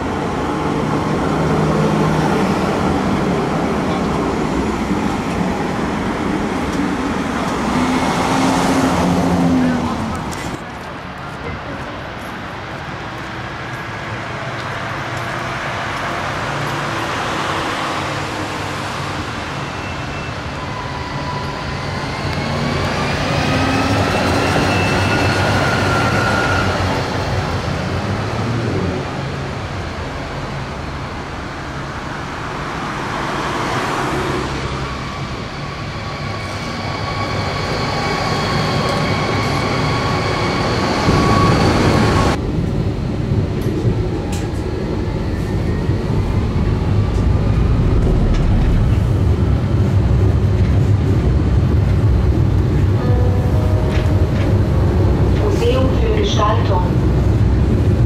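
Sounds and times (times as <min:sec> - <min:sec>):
second tram approaching: 0:00.0 - 0:58.0
tram rolling on tracks: 0:00.0 - 0:58.0.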